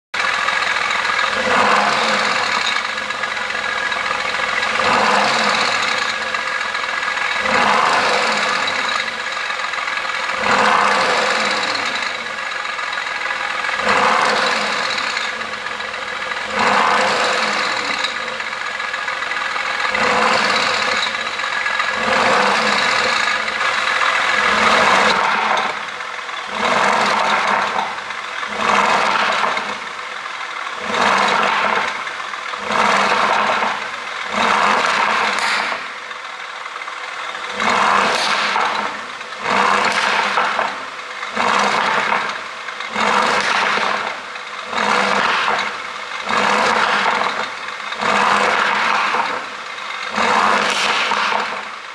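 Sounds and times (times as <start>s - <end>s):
car engine revving: 0.1s - 51.9s.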